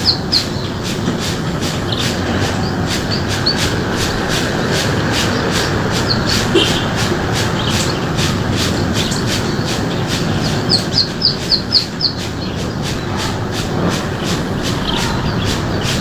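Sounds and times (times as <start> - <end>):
noisy background with fast pulse: 0.0 - 16.0.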